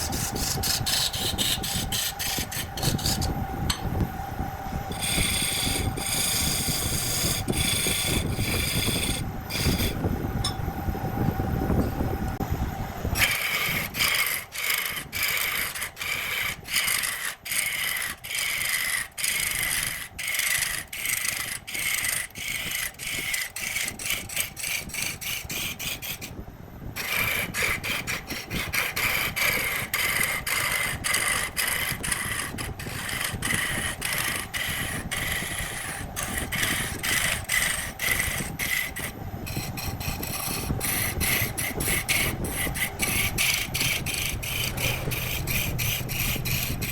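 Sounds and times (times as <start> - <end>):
rasping wood by hand: 5.0 - 10.0, 13.2 - 26.3, 27.0 - 46.9.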